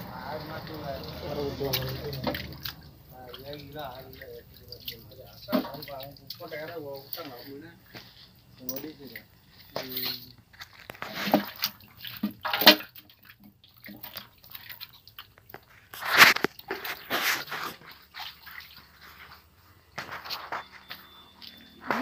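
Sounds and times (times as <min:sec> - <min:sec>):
water splashing in a basin: 0:00.0 - 0:22.0.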